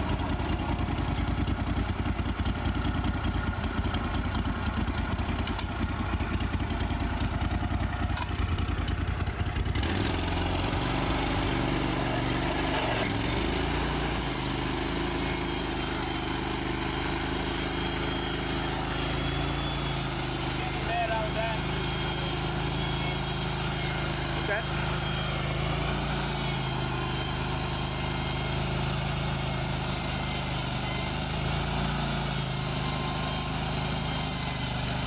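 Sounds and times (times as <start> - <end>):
sawmill engine running: 0.0 - 35.0.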